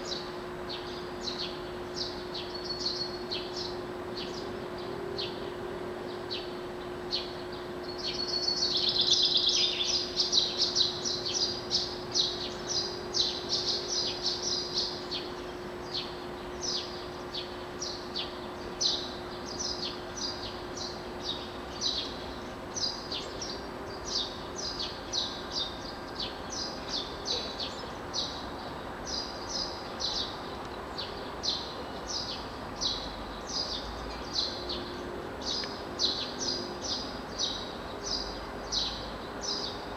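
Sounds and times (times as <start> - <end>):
songbirds chirping and singing: 0.0 - 39.9
steady low hum: 0.0 - 39.9.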